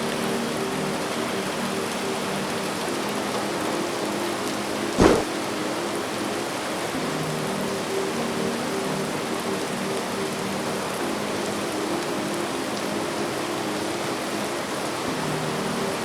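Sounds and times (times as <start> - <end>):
heavy rain falling: 0.0 - 16.0
soft sustained musical notes: 0.0 - 16.0.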